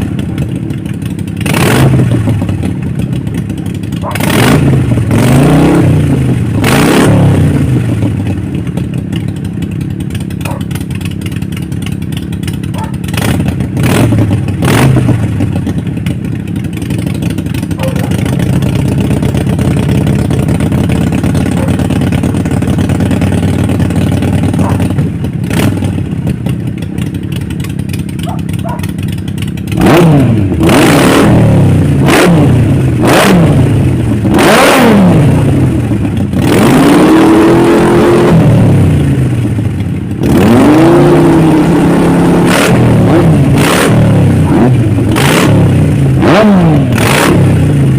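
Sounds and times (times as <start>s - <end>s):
motorcycle engines idling: 0.0s - 37.0s, 37.8s - 47.9s
motorcycle engine revving: 0.0s - 47.9s.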